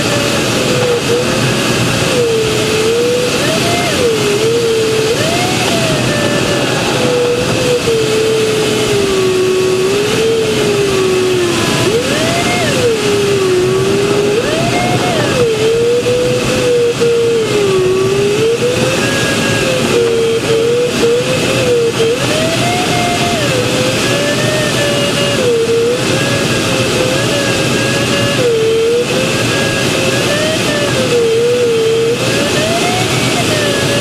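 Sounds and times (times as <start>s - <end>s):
cockpit airflow noise: 0.0s - 34.0s
variometer tone sliding in pitch: 0.0s - 34.0s.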